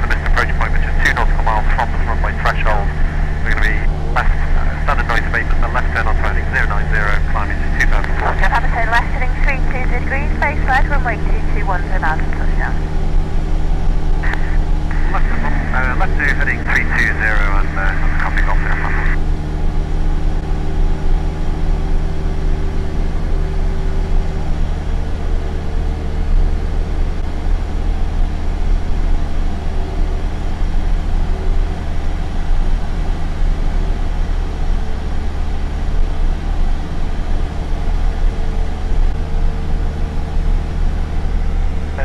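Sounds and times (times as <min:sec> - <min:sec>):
light aircraft engine drone: 0:00.0 - 0:42.0.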